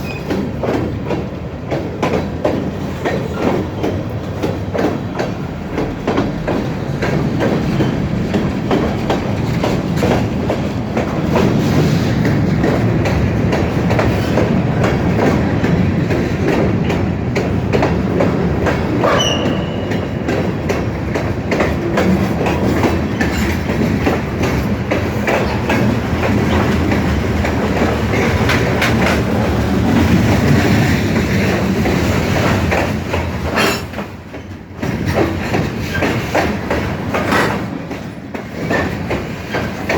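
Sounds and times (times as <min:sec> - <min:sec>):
wheels clicking over rail joints: 0:00.0 - 0:39.9.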